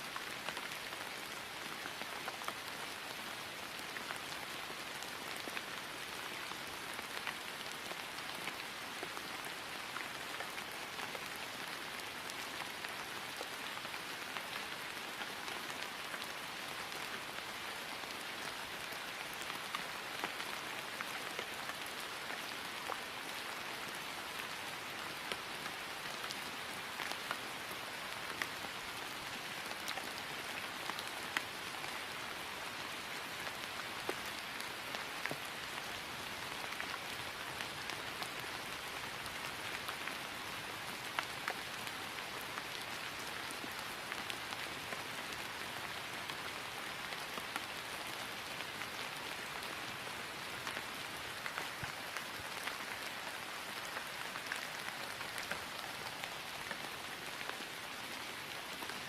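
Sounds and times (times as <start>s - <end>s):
rain falling on grass: 0.0s - 59.0s.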